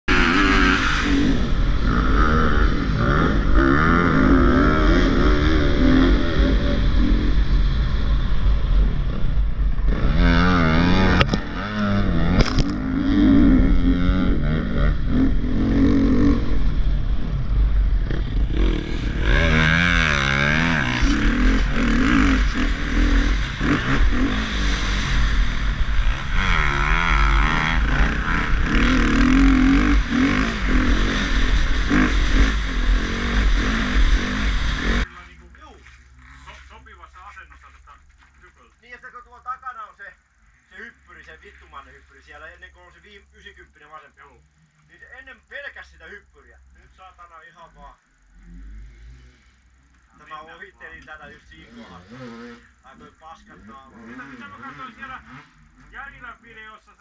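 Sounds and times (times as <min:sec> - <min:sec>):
motocross bike engine revving: 0:00.0 - 0:37.2, 0:42.3 - 0:57.0.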